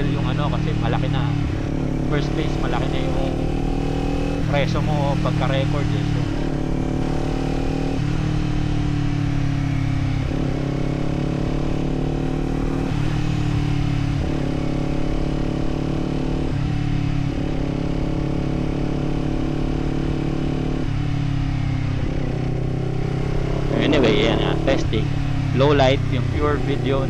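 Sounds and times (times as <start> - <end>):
motorcycle engine and exhaust: 0.0 - 27.0.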